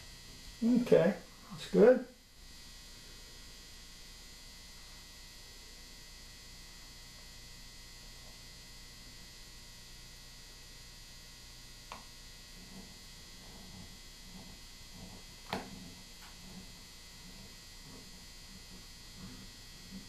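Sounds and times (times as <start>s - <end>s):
faint electrical mains hum: 0.0s - 20.0s.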